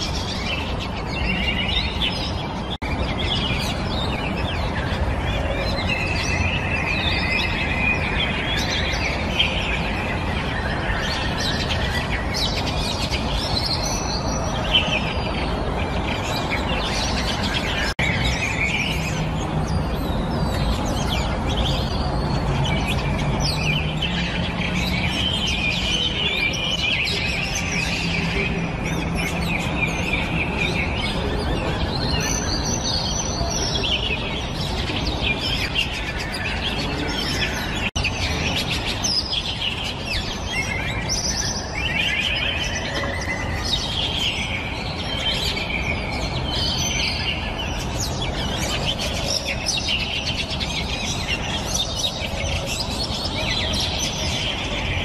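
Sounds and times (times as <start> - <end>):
birds chirping and calling: 0.0 - 55.0
steady background noise: 0.0 - 55.0.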